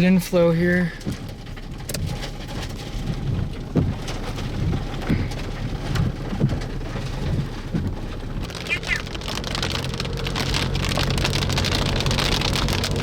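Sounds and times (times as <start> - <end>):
low rumble: 0.0 - 13.0
rain falling: 0.0 - 13.0.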